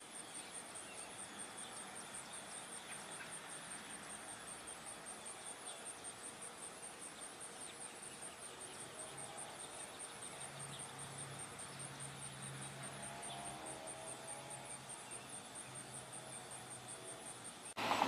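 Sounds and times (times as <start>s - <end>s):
insect chirping: 0.0s - 18.0s.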